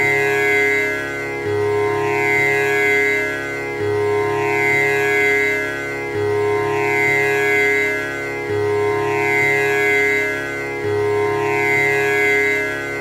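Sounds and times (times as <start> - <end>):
tanpura drone: 0.0 - 13.0.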